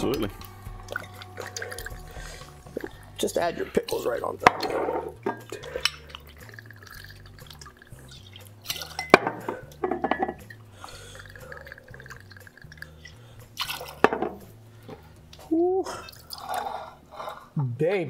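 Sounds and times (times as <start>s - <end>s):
liquid pouring and dripping: 0.0s - 15.0s.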